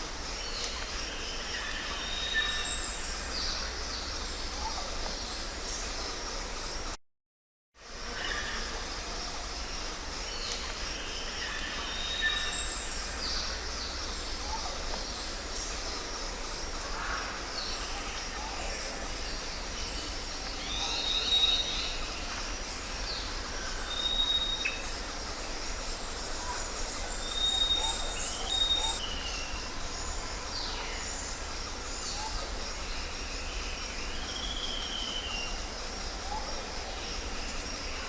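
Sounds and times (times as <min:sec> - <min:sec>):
high insect hum: 0:00.0 - 0:07.0, 0:07.8 - 0:38.0.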